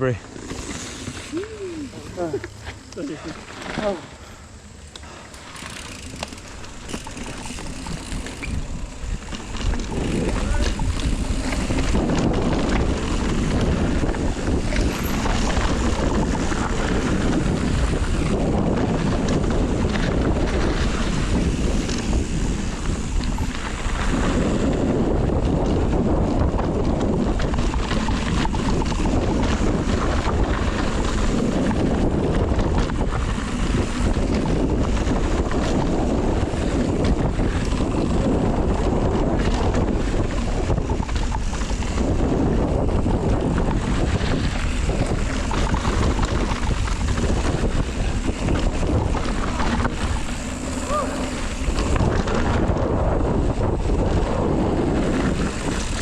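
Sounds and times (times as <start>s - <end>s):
bike clicking and rattling: 0.0s - 56.0s
wind rumbling on microphone: 0.0s - 56.0s.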